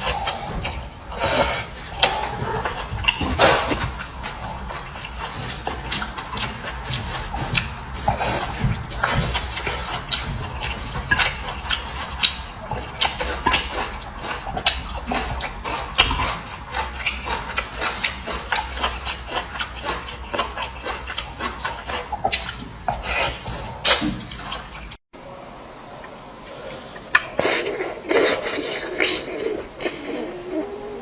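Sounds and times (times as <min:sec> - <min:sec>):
chewing with wet mouth smacks: 0:00.0 - 0:25.0.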